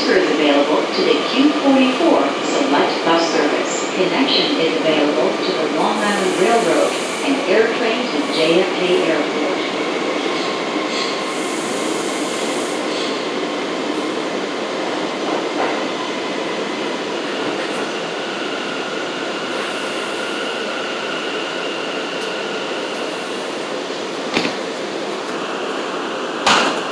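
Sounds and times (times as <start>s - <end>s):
subway car rumbling on rails: 0.0s - 26.9s.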